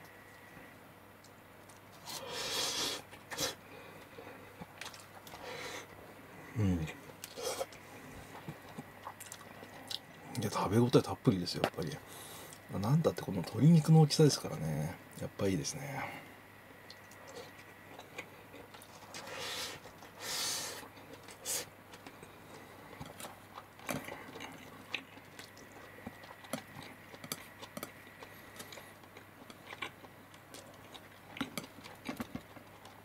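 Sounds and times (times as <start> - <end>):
quiet chewing: 0.0 - 11.0, 11.6 - 12.7, 16.1 - 33.0.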